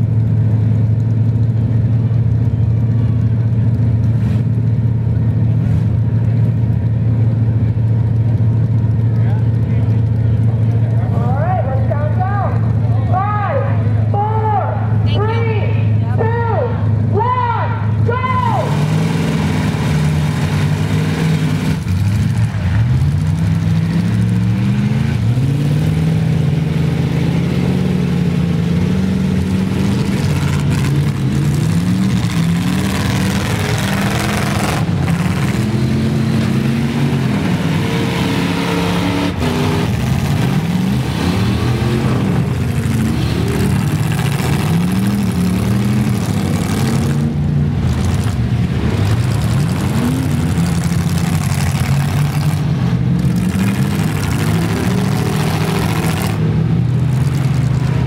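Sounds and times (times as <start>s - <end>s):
truck engines revving hard: 0.0s - 58.0s.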